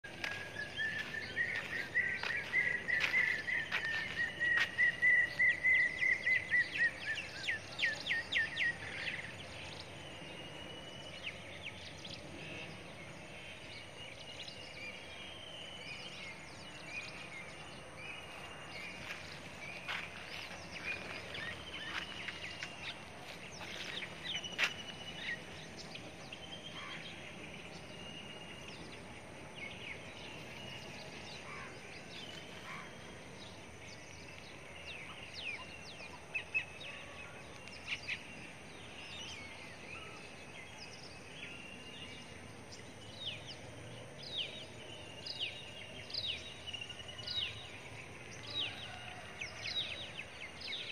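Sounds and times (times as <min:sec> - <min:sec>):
birds chirping: 0:00.0 - 0:50.9
faint outdoor background: 0:00.0 - 0:50.9.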